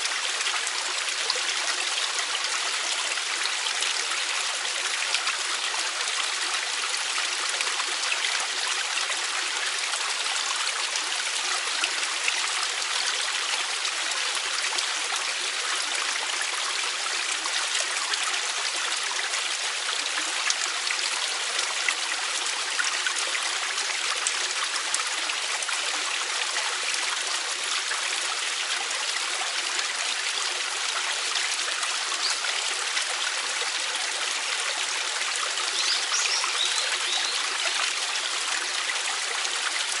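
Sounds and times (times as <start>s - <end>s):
stream flowing over rocks: 0.0s - 40.0s.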